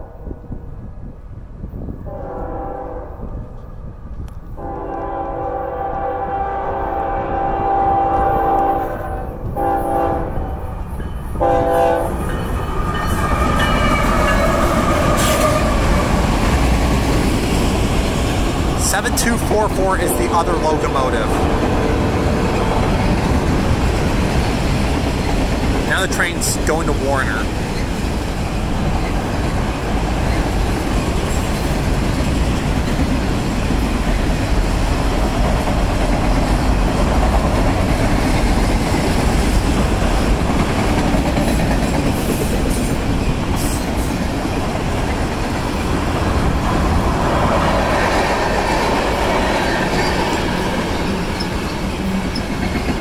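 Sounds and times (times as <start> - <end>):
wind buffeting microphone: 0.0 - 26.4, 27.4 - 53.0
train wheels rumbling on rails: 0.0 - 53.0.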